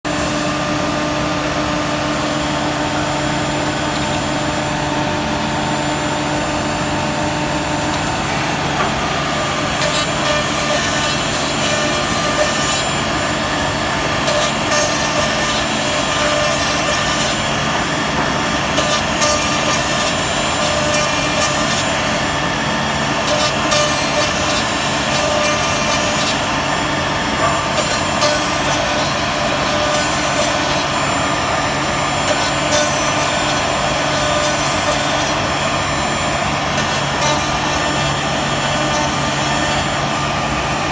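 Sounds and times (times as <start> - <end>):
router bit cutting wood: 0.1 - 40.9
router spindle whine: 0.1 - 40.9.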